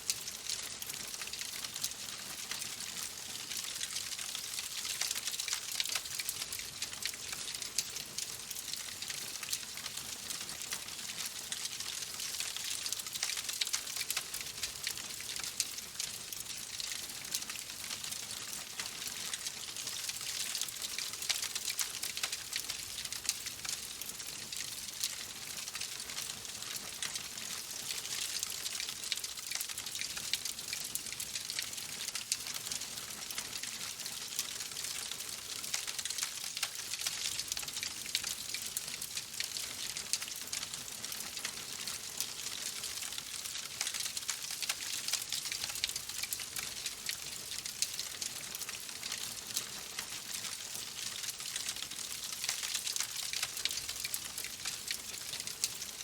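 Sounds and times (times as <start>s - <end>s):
wood fire crackling and popping: 0.1s - 56.0s.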